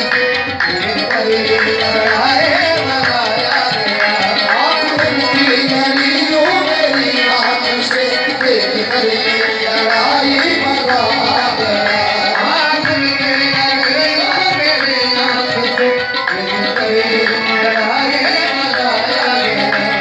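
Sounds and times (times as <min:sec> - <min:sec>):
harmonium tones: 0:00.0 - 0:20.0
tabla drumming: 0:00.0 - 0:20.0.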